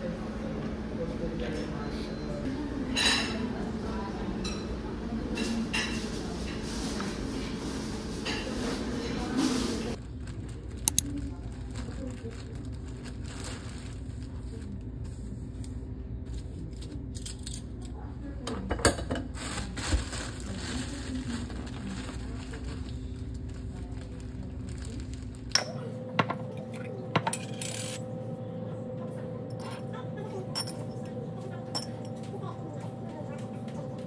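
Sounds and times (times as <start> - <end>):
room hum: 0.0 - 34.0.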